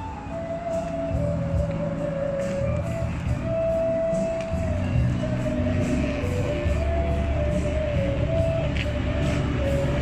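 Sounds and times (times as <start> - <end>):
rock music with guitar and bass: 0.0 - 10.0.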